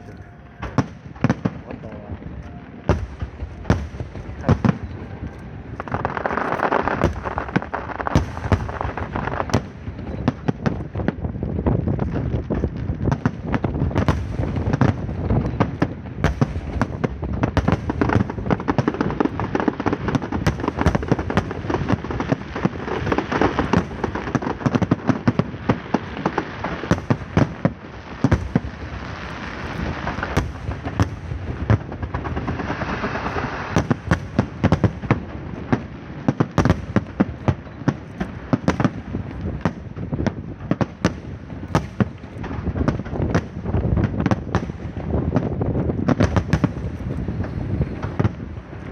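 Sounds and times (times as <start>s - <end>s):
fireworks cracking and banging: 0.0s - 48.9s.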